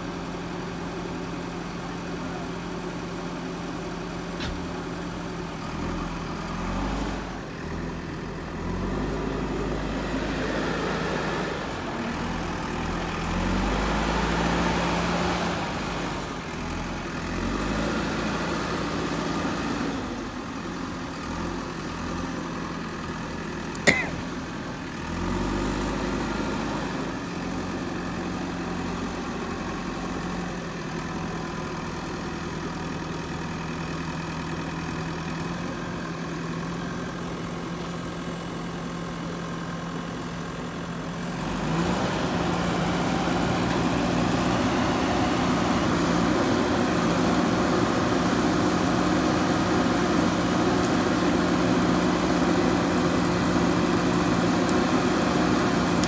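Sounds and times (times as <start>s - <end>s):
diesel engine revving: 0.1s - 56.0s.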